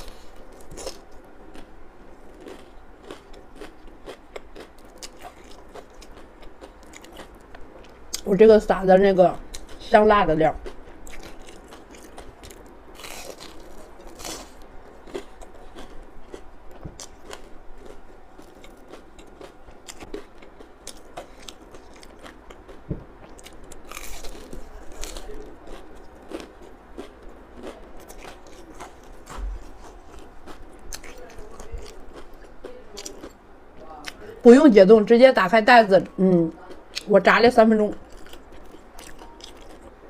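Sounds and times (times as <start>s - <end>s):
crunchy chewing: 0.0s - 8.3s, 10.6s - 34.4s, 37.9s - 40.0s.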